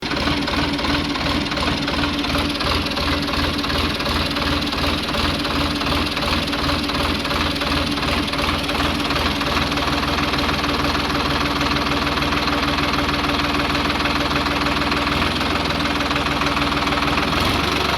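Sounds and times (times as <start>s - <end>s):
engine idling with pulsing knock: 0.0s - 17.9s.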